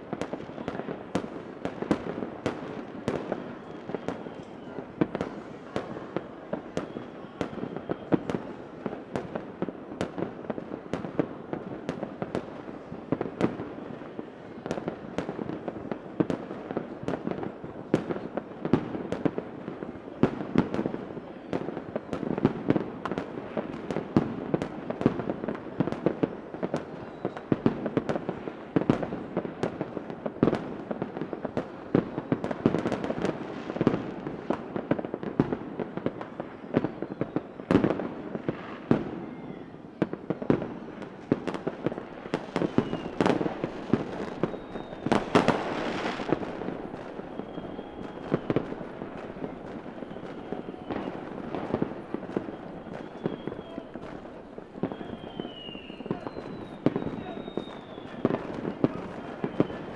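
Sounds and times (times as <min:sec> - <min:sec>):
faint firework whistles: 0:00.0 - 0:59.9
fireworks bangs and pops: 0:00.0 - 0:59.9
fireworks crackle: 0:00.0 - 0:59.9.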